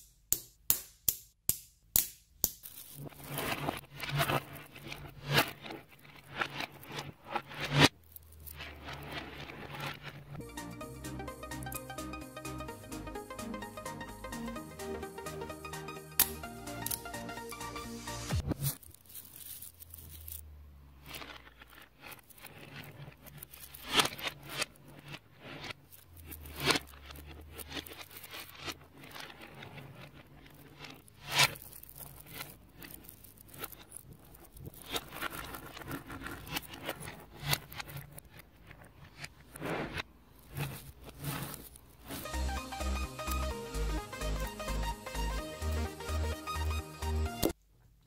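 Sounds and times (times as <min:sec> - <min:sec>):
magnet balls clicking and scraping: 0:00.0 - 0:47.6.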